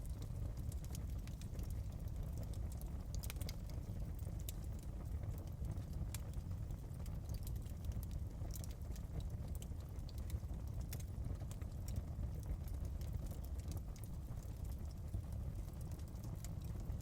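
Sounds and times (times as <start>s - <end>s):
fire crackles and pops: 0.0s - 17.0s
low rumble of fire: 0.0s - 17.0s.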